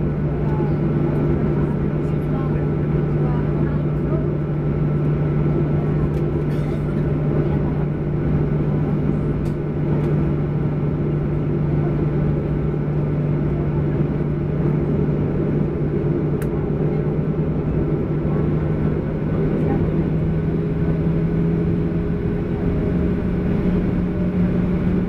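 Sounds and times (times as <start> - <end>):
jet engine cabin drone: 0.0 - 25.0.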